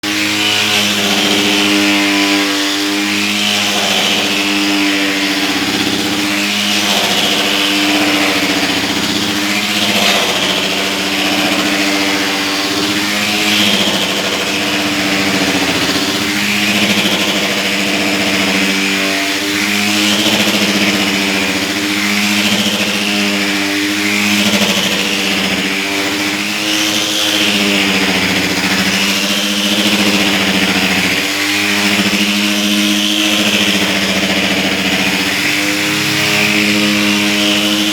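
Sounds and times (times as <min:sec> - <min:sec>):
dust-removal machine running: 0:00.0 - 0:37.9.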